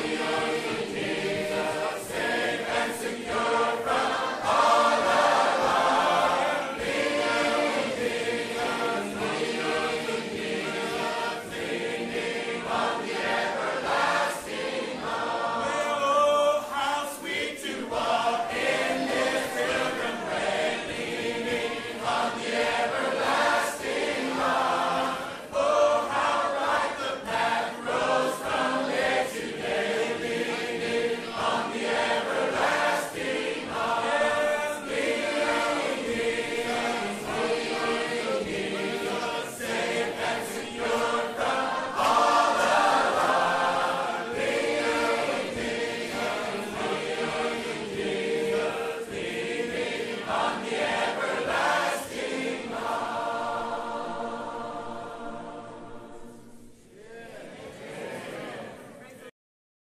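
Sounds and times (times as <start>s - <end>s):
choir singing: 0.0s - 59.3s.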